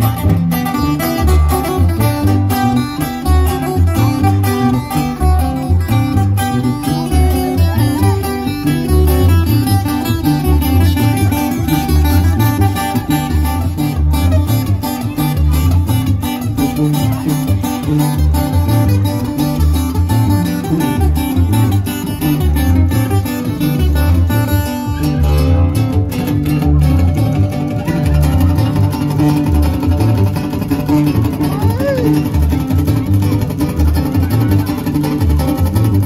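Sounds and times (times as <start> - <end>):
tuba bass line: 0.0 - 36.0
twelve-string guitar strummed: 0.0 - 36.0.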